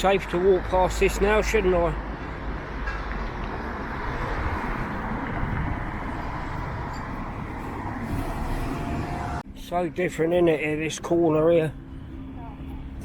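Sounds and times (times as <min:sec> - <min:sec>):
road traffic rumble: 0:00.0 - 0:09.6, 0:10.6 - 0:13.0.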